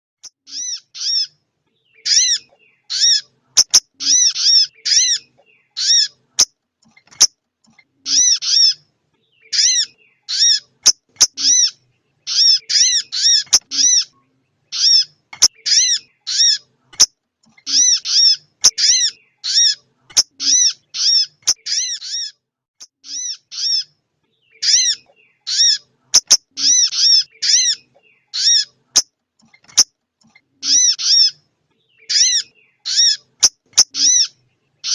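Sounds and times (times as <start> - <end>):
bird chirping high downward calls: 0.3 - 6.4, 8.0 - 16.8, 17.6 - 22.4, 23.0 - 29.0, 30.4 - 34.9.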